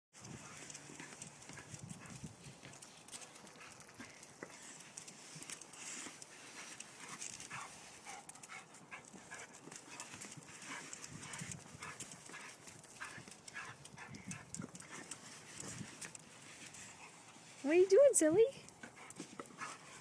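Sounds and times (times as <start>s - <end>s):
claws clicking on concrete: 0.2s - 17.1s.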